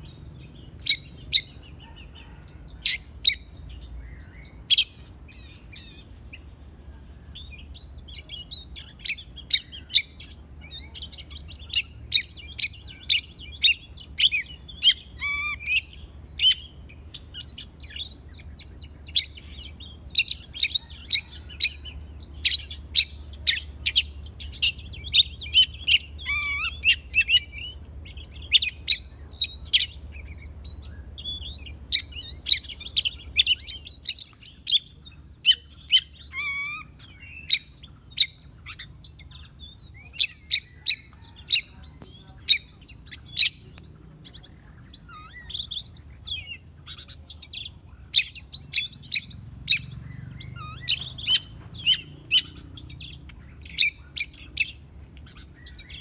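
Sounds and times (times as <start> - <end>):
bird calling and singing: 0.0 - 56.0.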